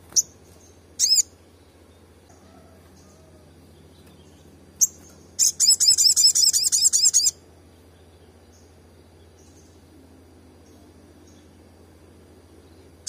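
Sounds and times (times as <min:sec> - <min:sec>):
sunbird calling: 0:00.0 - 0:13.0.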